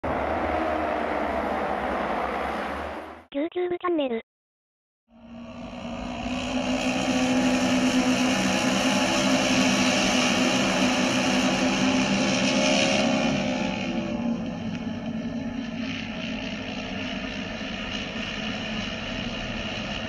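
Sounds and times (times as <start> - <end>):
racing motorcycle engines droning: 0.0 - 3.2, 5.1 - 20.0.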